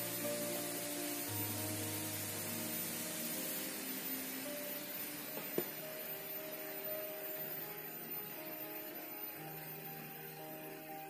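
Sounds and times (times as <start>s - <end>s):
background music held notes: 0.0s - 11.0s.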